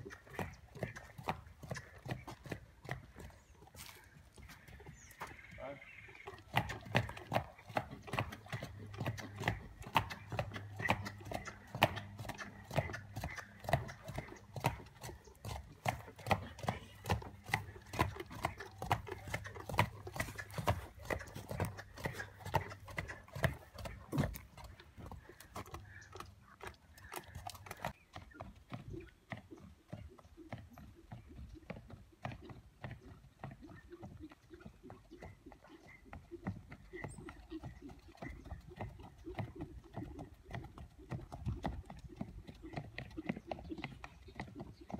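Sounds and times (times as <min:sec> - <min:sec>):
horse hooves trotting on dirt: 0:00.0 - 0:44.9.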